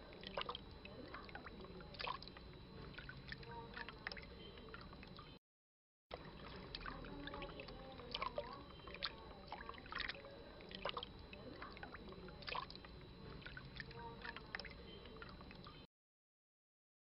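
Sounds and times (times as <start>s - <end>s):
water gurgling and lapping: 0.0s - 5.3s, 6.1s - 15.8s.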